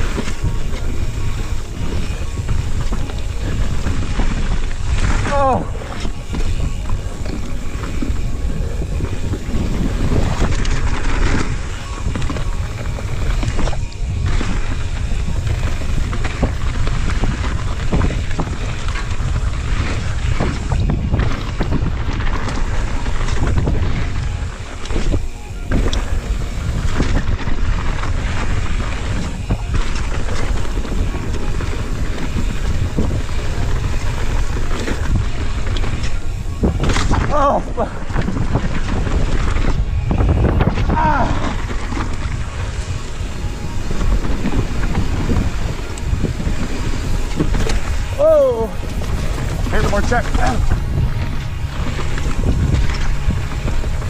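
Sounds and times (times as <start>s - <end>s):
bike clattering over bumps: 0.0s - 54.0s
tyres rumbling on dirt: 0.0s - 54.0s
wind buffeting microphone: 0.0s - 54.0s.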